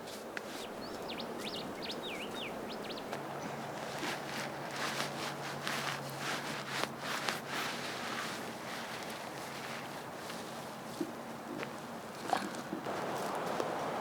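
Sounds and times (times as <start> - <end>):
crackly rustling and snapping: 0.0 - 14.0.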